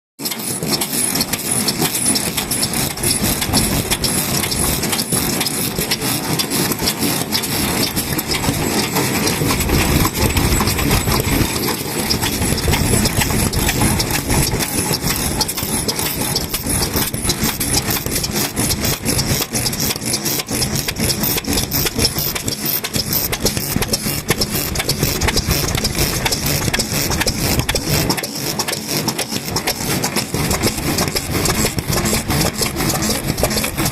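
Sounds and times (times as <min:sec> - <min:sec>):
stationary engines running: 0:00.2 - 0:33.9.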